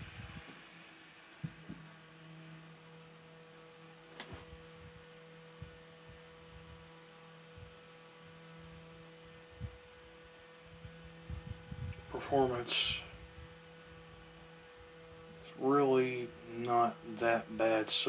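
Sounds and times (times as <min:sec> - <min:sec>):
desk fan motor humming: 0:00.0 - 0:18.0.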